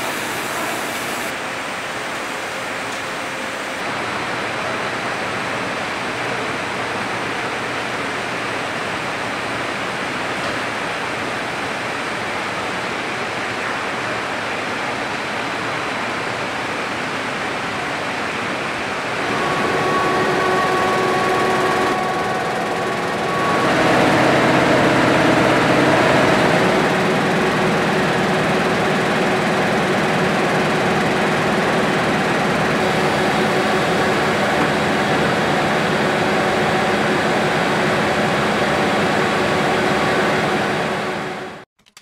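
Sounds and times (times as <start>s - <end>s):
multi-tone machine whine: 0.0s - 14.2s, 14.8s - 41.6s
printing machinery running: 0.0s - 41.6s.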